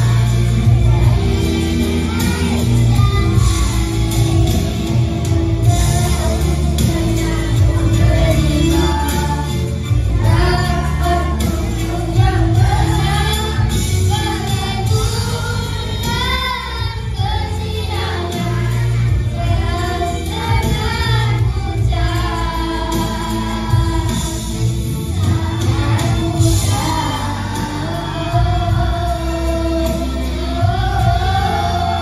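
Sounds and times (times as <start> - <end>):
accompanying music: 0.0 - 32.0
children singing in unison: 0.0 - 32.0.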